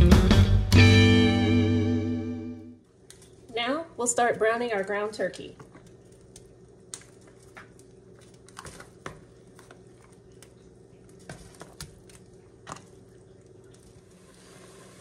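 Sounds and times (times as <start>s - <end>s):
steady low hum: 0.4s - 15.0s.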